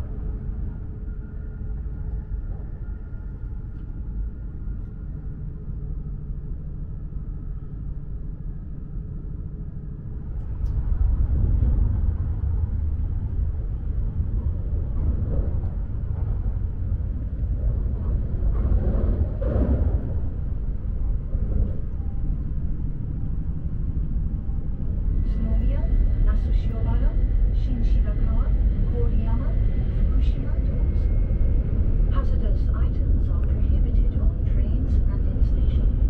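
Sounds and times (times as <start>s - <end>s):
train cabin low rumble: 0.0s - 36.0s.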